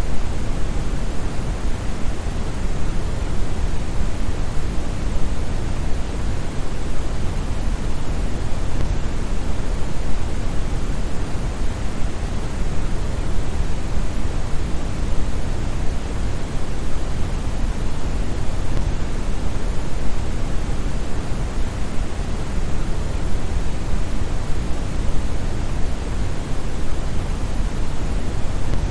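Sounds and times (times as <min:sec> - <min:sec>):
brown noise hiss: 0:00.0 - 0:28.9.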